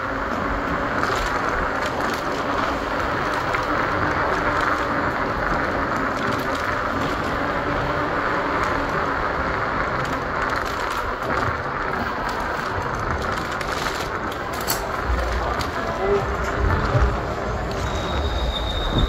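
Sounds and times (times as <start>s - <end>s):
bicycle tyre and wind noise: 0.0s - 19.0s
passing car traffic: 0.0s - 19.0s.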